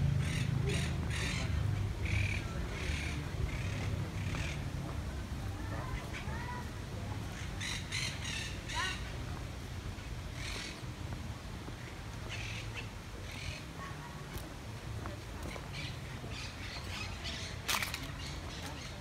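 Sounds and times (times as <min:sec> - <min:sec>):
low street hum: 0:00.0 - 0:19.0.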